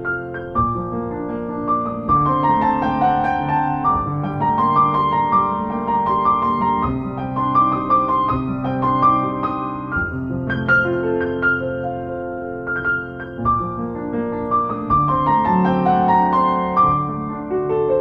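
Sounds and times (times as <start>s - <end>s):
calm piano melody: 0.0s - 18.0s.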